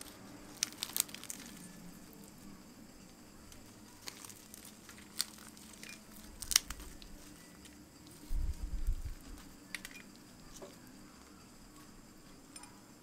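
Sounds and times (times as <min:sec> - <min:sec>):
flaky pastry crackling and tearing: 0:00.0 - 0:11.9
muffled handling rumble: 0:01.4 - 0:11.9.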